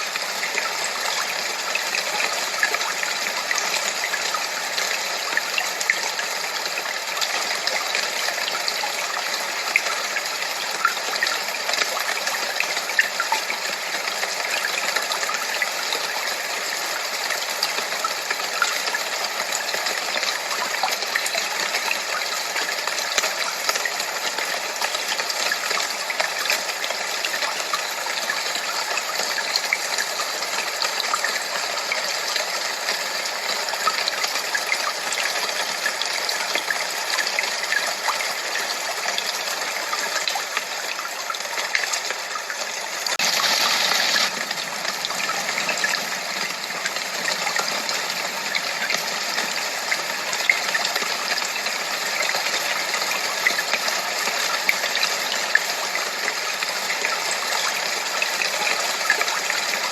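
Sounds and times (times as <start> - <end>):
gushing water: 0.0 - 59.9.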